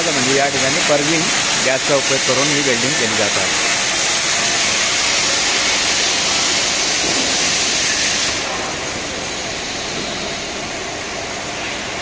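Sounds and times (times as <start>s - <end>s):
gas hissing from nozzle: 0.0s - 11.0s.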